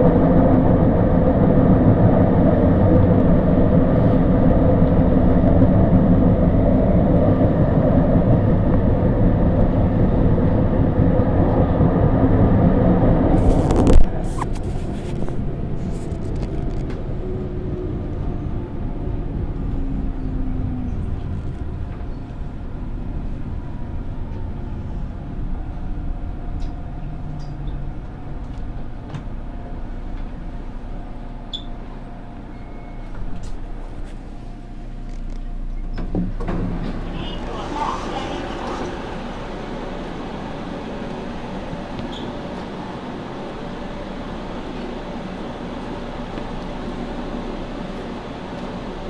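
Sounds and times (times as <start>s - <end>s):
train motor whine: 0.0s - 49.0s
train wheels rumbling on rail: 0.0s - 49.0s.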